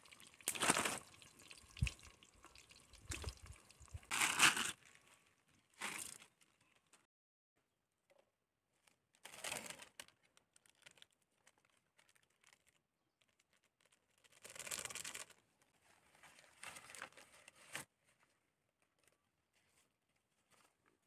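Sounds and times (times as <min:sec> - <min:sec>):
faint rustling and crinkling: 0:00.1 - 0:07.1, 0:08.1 - 0:21.0.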